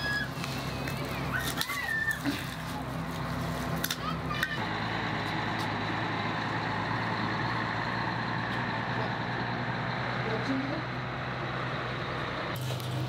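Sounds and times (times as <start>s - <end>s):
diesel truck engine driving past: 0.0s - 13.0s.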